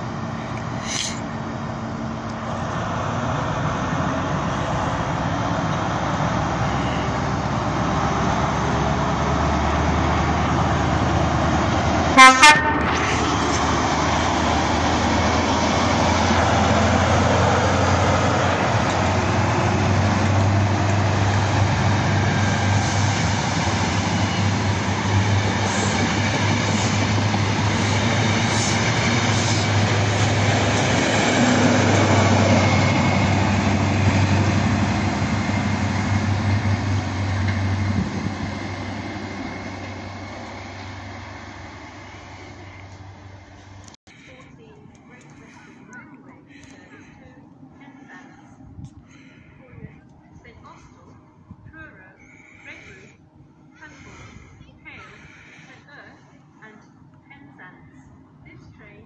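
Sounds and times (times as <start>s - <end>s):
diesel engine hum: 0.0s - 59.0s
train wheels rumbling: 0.0s - 59.0s.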